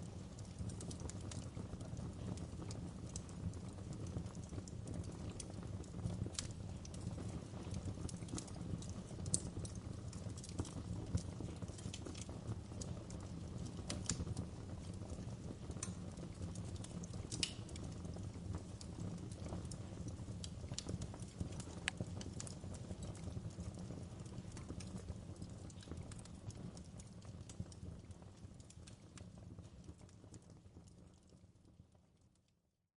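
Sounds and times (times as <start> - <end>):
low rumble of burning: 0.0 - 32.6
wood fire crackling and popping: 0.0 - 32.6.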